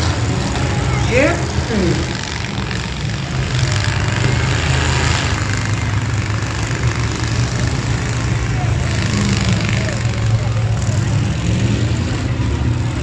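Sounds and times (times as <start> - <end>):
truck engines running hard: 0.0 - 13.0.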